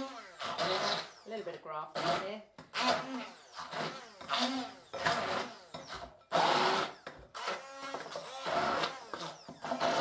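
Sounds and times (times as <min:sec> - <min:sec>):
stick blender whizzing: 0:00.0 - 0:01.4, 0:02.0 - 0:10.0.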